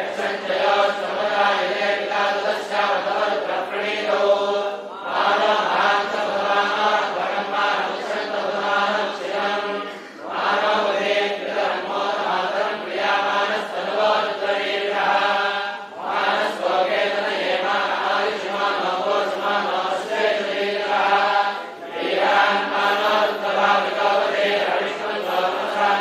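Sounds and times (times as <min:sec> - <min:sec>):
mantras chanted: 0:00.0 - 0:26.0.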